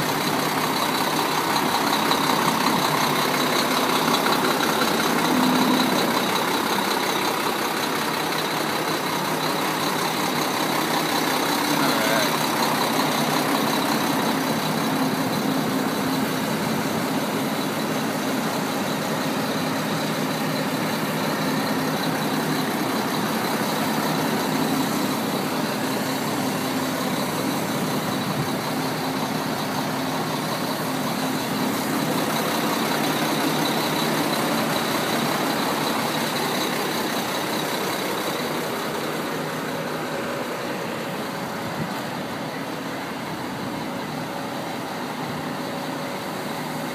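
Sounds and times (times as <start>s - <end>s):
truck diesel engine idling: 0.0s - 46.9s.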